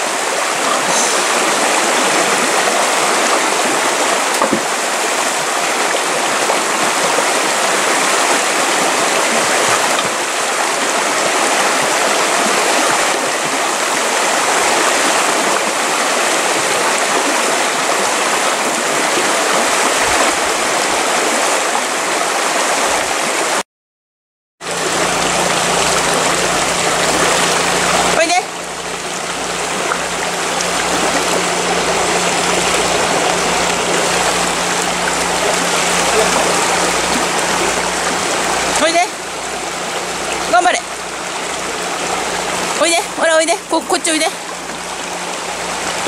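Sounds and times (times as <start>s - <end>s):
stream rushing over stones: 0.0s - 23.6s, 24.6s - 46.0s.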